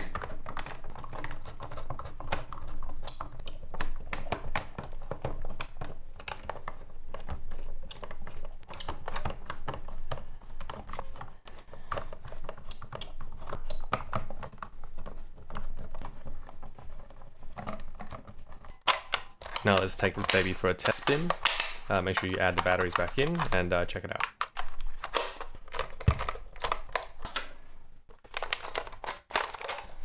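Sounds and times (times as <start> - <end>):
plastic parts clicking: 0.0 - 30.0.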